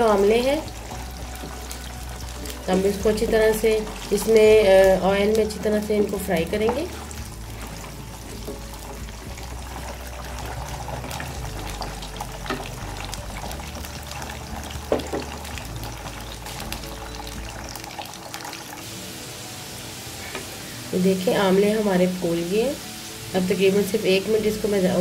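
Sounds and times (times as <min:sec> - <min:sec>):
food sizzling in oil: 0:00.0 - 0:25.0
soft background music: 0:00.0 - 0:25.0.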